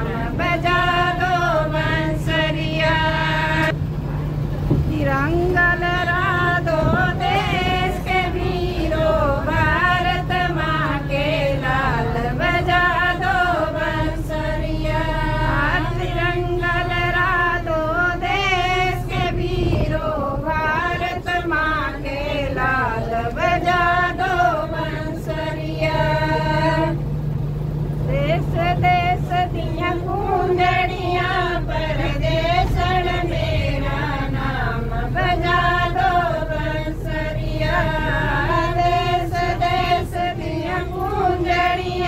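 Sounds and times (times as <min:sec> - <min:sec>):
women singing together: 0:00.0 - 0:03.8, 0:04.8 - 0:42.0
bus engine hum: 0:00.0 - 0:42.0.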